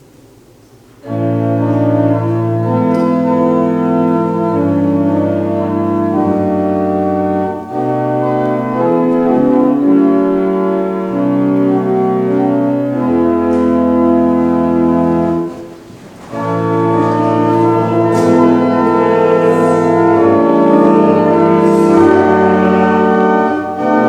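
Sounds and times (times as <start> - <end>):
church organ playing chords: 0.8 - 24.0.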